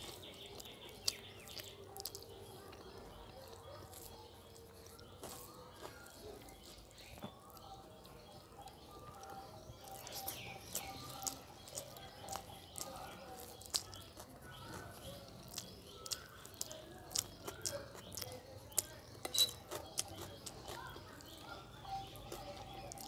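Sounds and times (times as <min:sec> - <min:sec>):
chewing with wet mouth clicks: 0:00.0 - 0:23.0.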